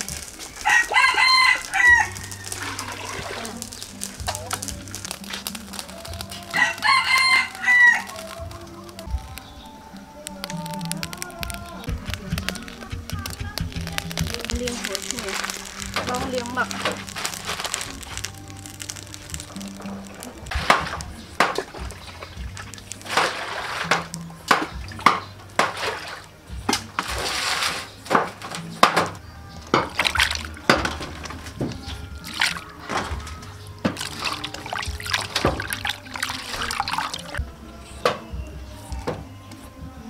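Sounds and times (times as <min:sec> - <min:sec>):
water sloshing and splashing: 0:00.0 - 0:09.0, 0:10.1 - 0:29.0, 0:29.8 - 0:37.4
background music: 0:00.0 - 0:40.0.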